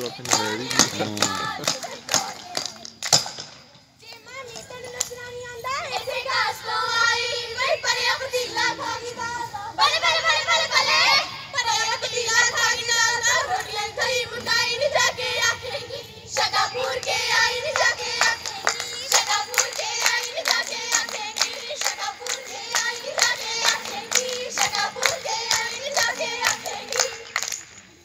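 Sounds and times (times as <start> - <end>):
rhythmic hand clapping: 0.0 - 3.7, 4.5 - 7.3, 11.8 - 27.9
voices singing folk verses: 0.0 - 27.6.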